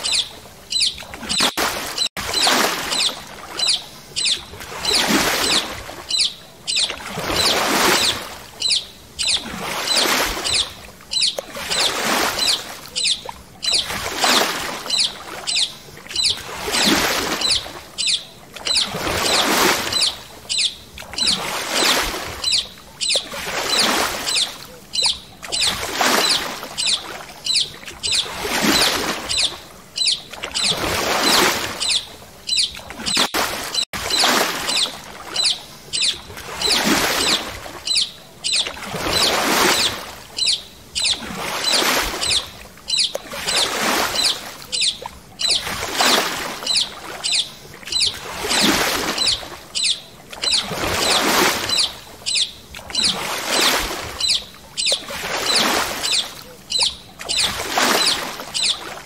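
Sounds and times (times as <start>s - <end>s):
water swishing in surges: 0.0s - 59.0s.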